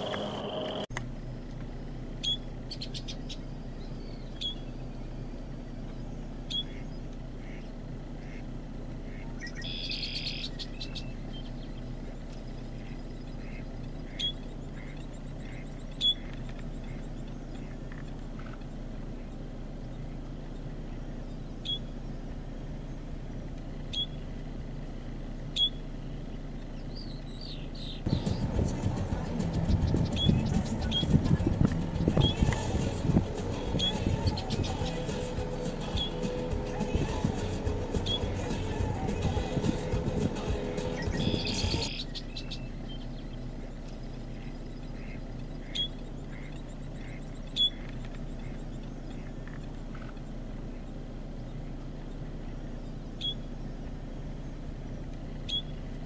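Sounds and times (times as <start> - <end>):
low rumble: 0.0 - 56.0
steady low hum: 0.0 - 56.0
small bird chirping: 2.2 - 8.4, 9.0 - 24.7, 25.5 - 56.0.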